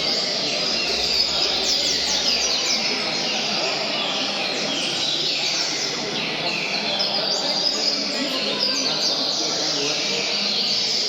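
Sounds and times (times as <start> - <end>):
many birds singing whistled phrases: 0.0 - 11.0
murmur of people talking: 0.0 - 11.0.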